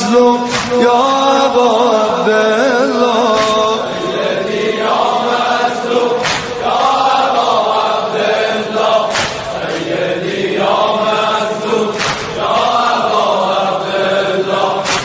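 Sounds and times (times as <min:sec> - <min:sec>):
group of voices chanting: 0:00.4 - 0:15.0.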